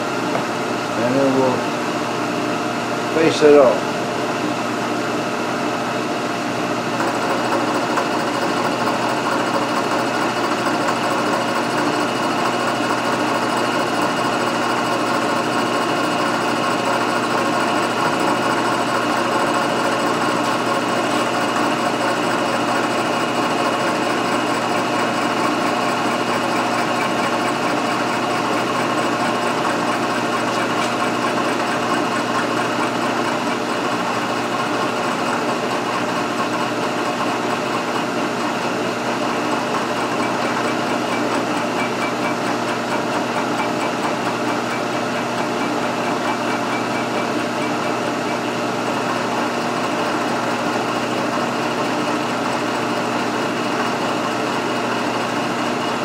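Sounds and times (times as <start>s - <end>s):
milling machine cutting steel: 6.8s - 56.0s.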